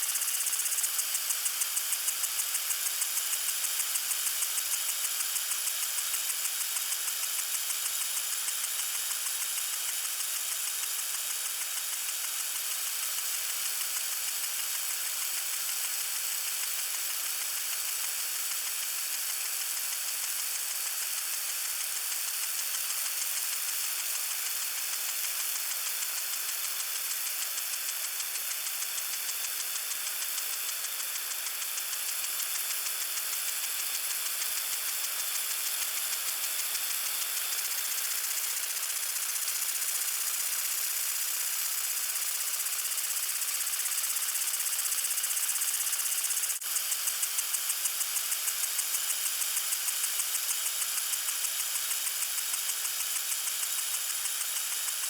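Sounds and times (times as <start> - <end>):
lawn sprinkler hissing and ticking: 0.0 - 55.0.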